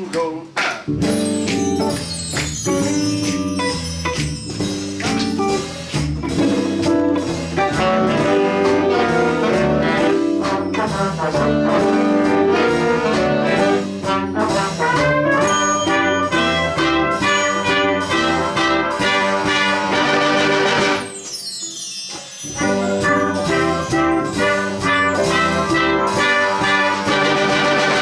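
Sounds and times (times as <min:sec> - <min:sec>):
big band jazz: 0:00.0 - 0:21.4, 0:22.2 - 0:28.0.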